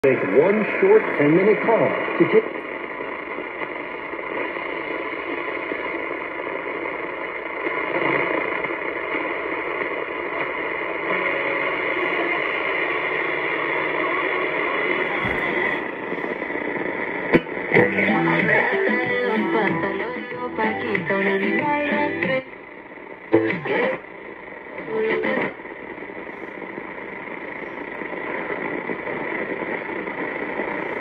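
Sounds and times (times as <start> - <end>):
radio crackles: 0.0 - 31.0
radio static and hiss: 0.0 - 31.0.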